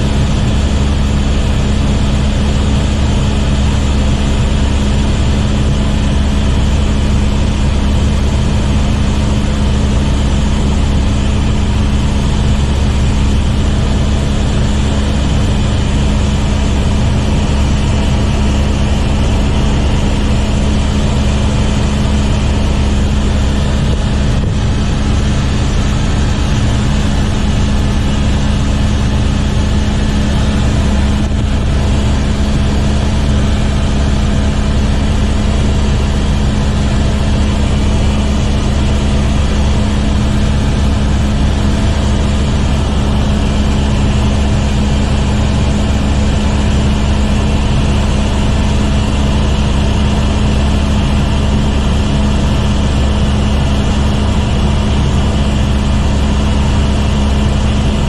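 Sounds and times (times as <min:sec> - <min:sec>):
helicopter rotor and engine drone: 0:00.0 - 0:58.0
steady hum: 0:00.0 - 0:58.0.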